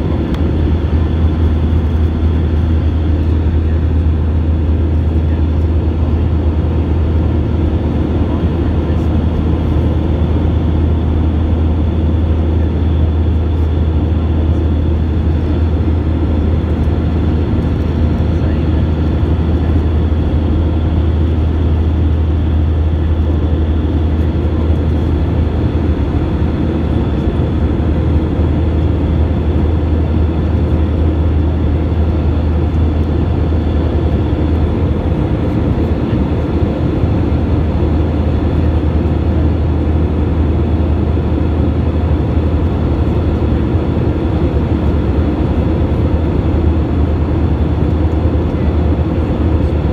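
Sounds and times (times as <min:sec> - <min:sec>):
airplane cabin engine roar: 0:00.0 - 0:49.9.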